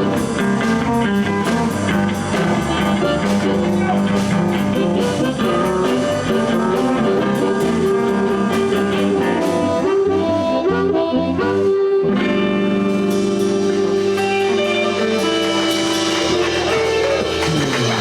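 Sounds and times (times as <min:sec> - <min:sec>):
blues band playing: 0:00.0 - 0:18.0
harmonica: 0:00.0 - 0:18.0.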